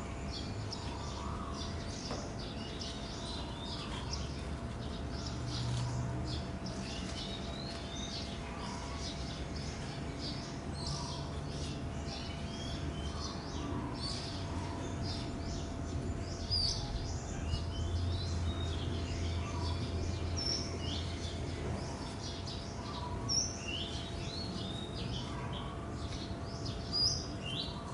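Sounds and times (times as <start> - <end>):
small birds chirping: 0.0 - 27.9
steady low hum: 0.0 - 27.9.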